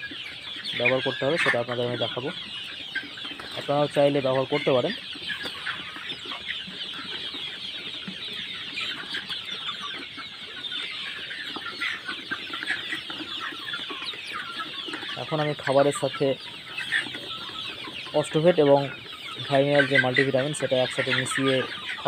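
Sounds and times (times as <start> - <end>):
chickens clucking and peeping: 0.0 - 22.0.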